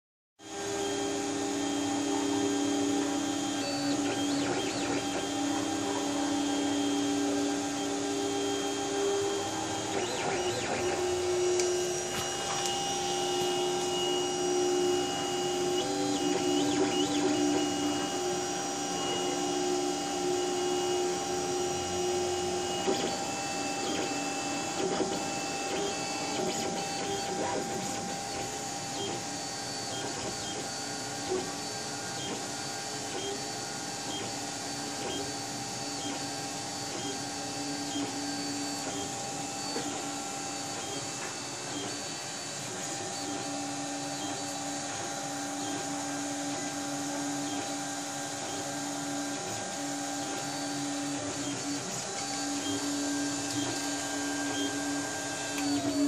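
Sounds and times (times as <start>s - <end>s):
stepper motor tones: 0.5s - 56.0s.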